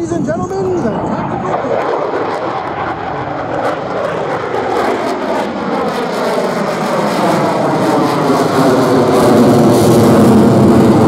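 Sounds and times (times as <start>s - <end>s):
fighter jet passing: 0.0s - 11.0s.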